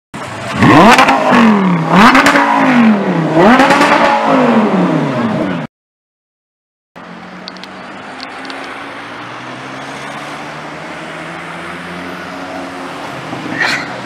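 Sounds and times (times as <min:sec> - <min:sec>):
street traffic: 0:00.2 - 0:05.7, 0:07.0 - 0:14.0.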